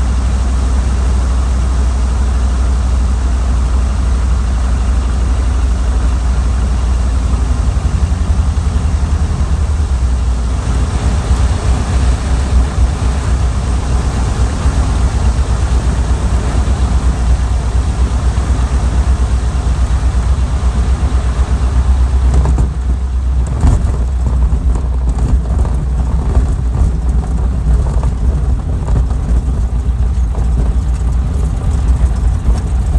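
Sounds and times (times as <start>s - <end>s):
airplane piston engine running: 0.0s - 32.9s
rushing noise: 6.1s - 32.9s.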